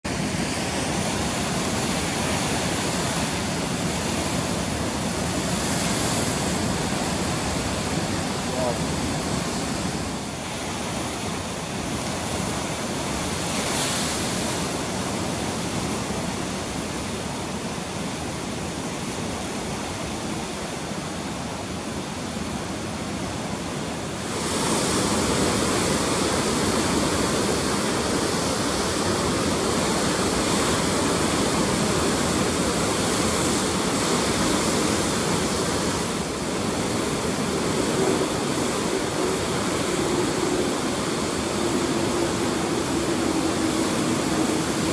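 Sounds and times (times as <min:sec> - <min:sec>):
ocean surf breaking: 0:00.0 - 0:44.9.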